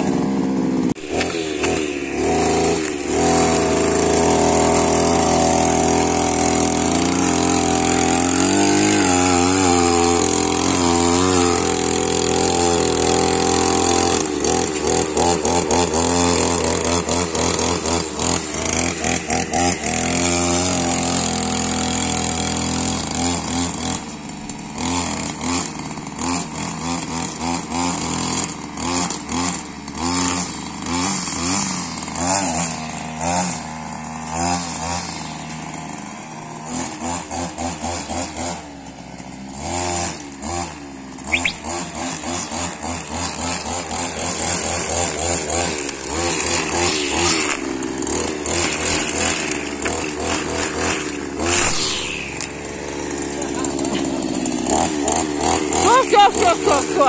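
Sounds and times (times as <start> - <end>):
string trimmer engine revving: 0.0 - 57.0
trimmer line cutting grass: 0.0 - 57.0.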